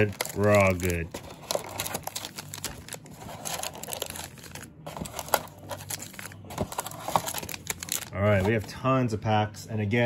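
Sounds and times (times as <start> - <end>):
foil wrappers crinkling: 0.0 - 8.7.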